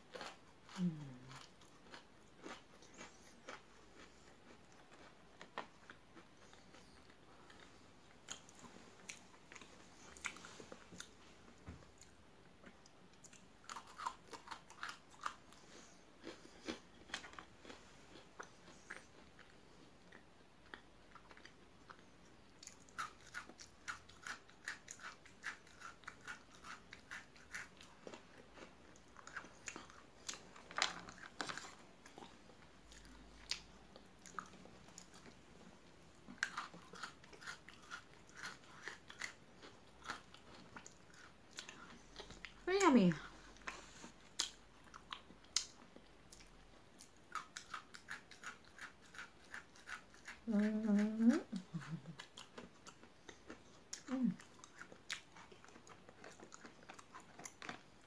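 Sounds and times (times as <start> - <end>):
crunching biscuit sticks: 0.0 - 11.1, 12.0 - 35.4, 36.1 - 42.6, 43.5 - 50.5, 51.6 - 58.0
quiet chewing: 0.0 - 58.0.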